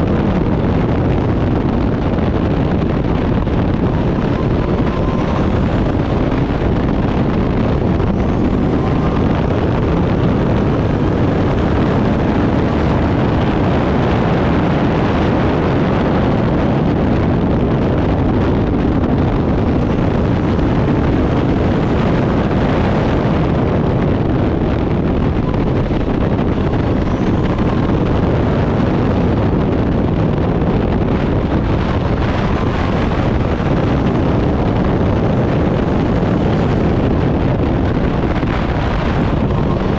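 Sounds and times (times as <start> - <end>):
race car engine: 0.0 - 39.9
wind buffeting on microphone: 0.0 - 39.9.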